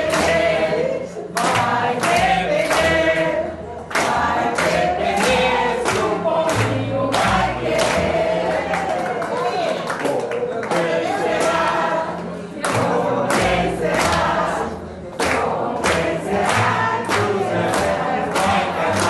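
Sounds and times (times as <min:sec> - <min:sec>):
people singing together: 0:00.0 - 0:09.4, 0:10.1 - 0:19.0
hands clapping in time: 0:00.0 - 0:11.8, 0:12.6 - 0:19.0.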